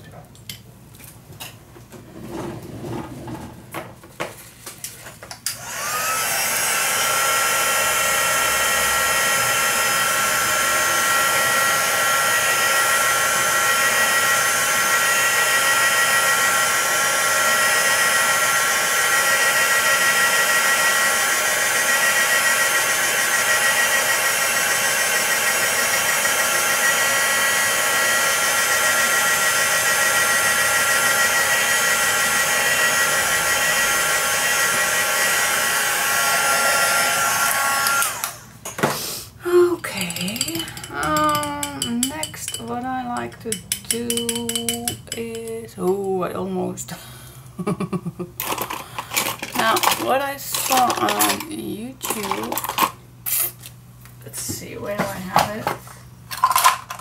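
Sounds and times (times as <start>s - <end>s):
heat tool fan whine and air rush: 4.6s - 57.0s.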